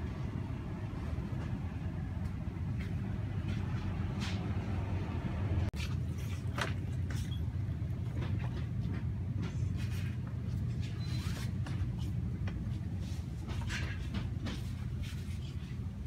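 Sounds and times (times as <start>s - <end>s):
grocery store background hum: 0.0s - 16.0s.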